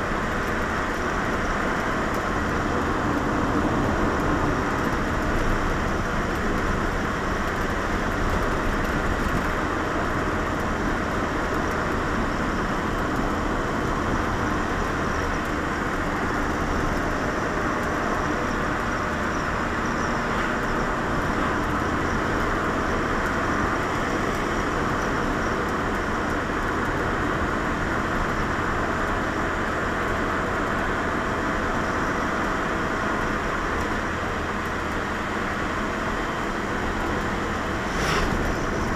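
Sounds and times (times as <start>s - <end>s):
car cabin road noise: 0.0s - 38.9s.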